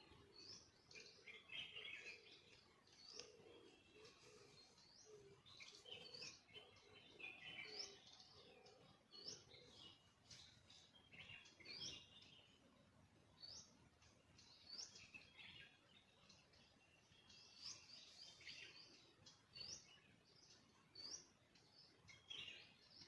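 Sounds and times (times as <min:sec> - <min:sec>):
bird chirps: 0:00.0 - 0:23.0.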